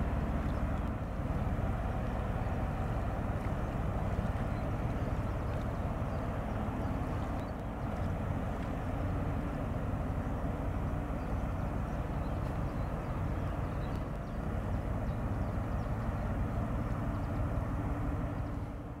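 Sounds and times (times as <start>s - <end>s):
ship wake washing on riverbank: 0.0s - 19.0s.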